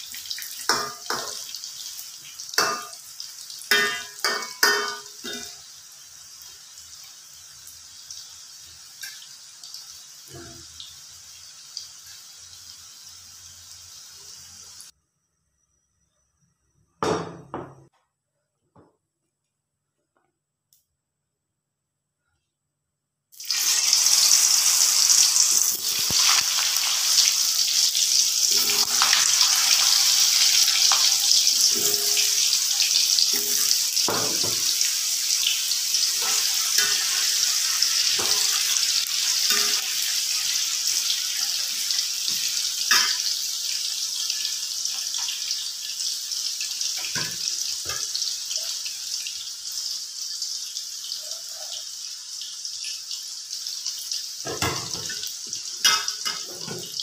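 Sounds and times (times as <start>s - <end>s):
food sizzling in hot oil: 0.0s - 14.9s, 23.3s - 57.0s.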